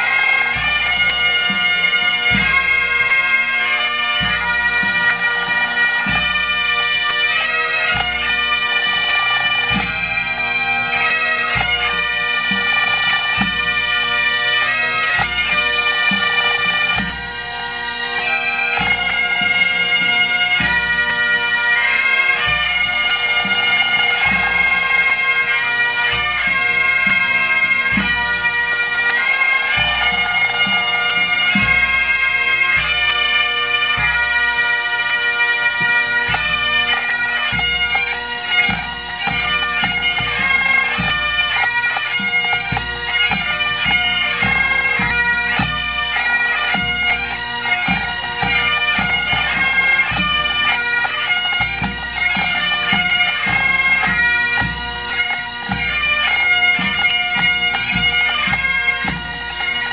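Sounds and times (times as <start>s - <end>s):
bagpipes playing a tune: 0.0s - 59.9s.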